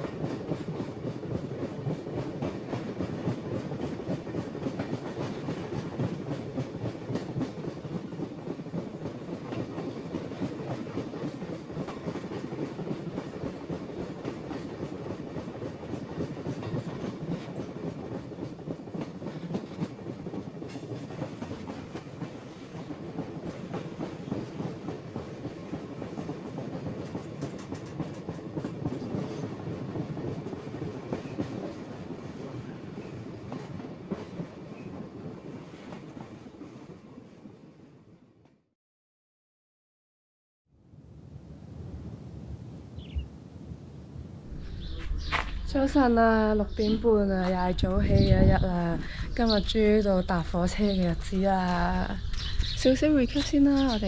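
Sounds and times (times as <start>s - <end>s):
freight train wagons rattling on rails: 0.0s - 36.8s, 44.5s - 54.0s.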